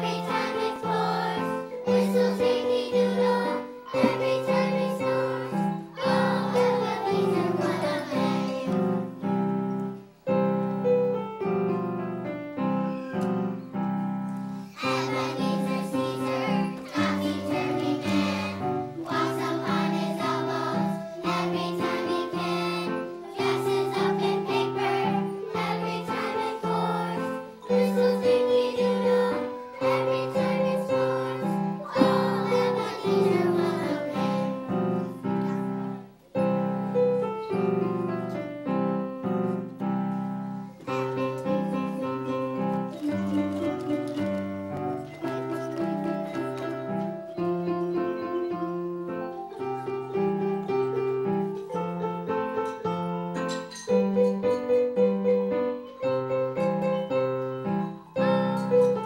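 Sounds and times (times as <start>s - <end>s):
children's choir singing: 0.0s - 10.0s, 14.4s - 59.0s
piano accompaniment: 0.0s - 59.0s.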